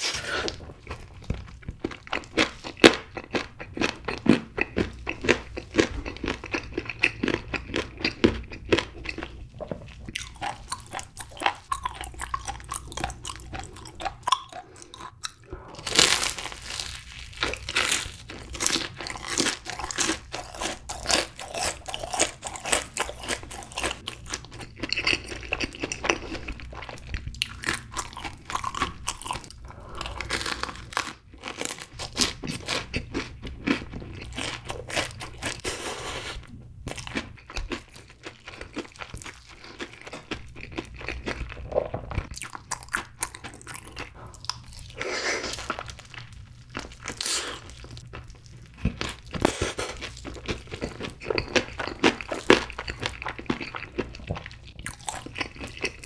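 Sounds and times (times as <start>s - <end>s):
crisp crunchy chewing: 0.0s - 56.0s.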